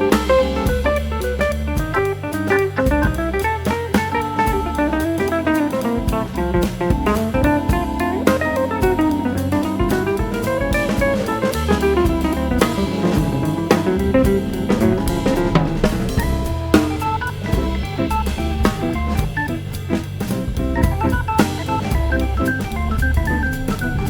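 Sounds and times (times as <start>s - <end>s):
drum kit beat: 0.0s - 24.0s
guitar: 0.0s - 24.0s
keyboard: 0.0s - 24.0s.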